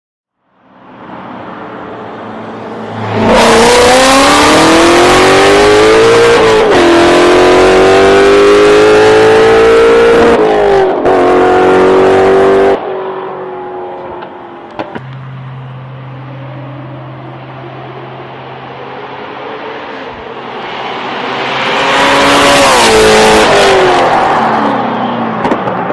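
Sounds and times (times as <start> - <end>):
loud car engine revving: 1.8 - 25.9.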